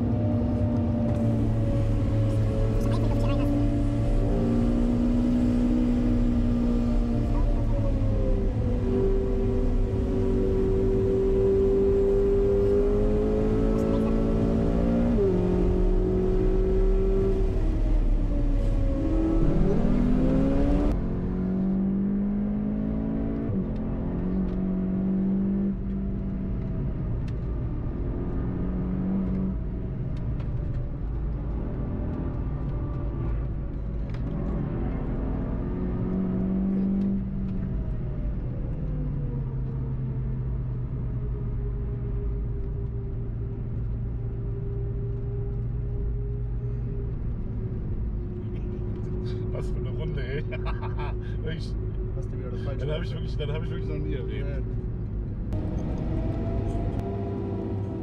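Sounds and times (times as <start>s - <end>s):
car engine revving: 0.0s - 38.4s, 43.6s - 58.0s.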